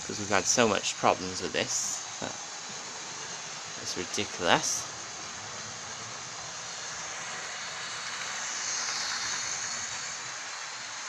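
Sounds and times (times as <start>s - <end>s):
model train motor and wheels: 0.0s - 11.0s.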